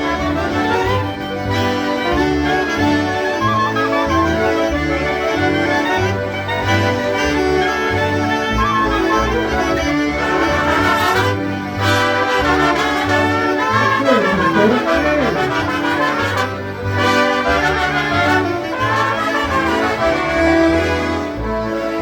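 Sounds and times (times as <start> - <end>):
concertinas playing polka: 0.0 - 22.0.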